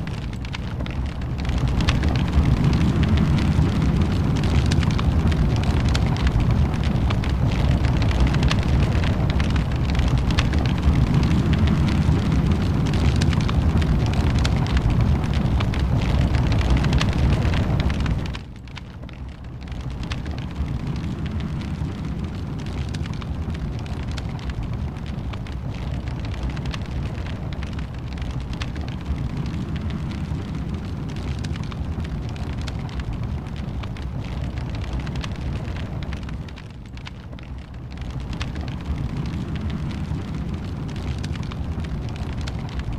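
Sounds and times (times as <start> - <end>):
fire crackling: 0.0 - 42.9
low rumble: 0.0 - 42.9.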